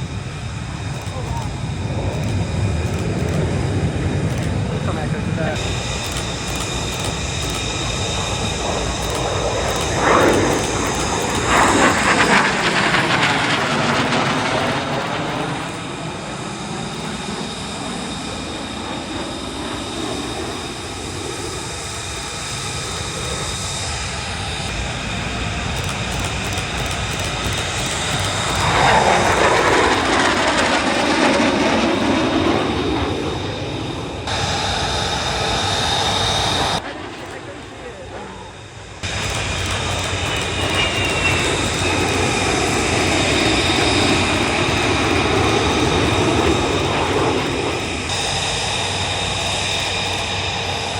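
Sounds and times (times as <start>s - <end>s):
jet aircraft flying past: 0.0s - 50.9s.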